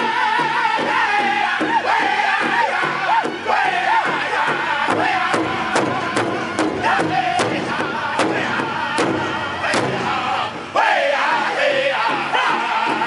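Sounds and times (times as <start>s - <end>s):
group singing in high voices: 0.0s - 13.0s
large hide drum beating: 0.0s - 13.0s.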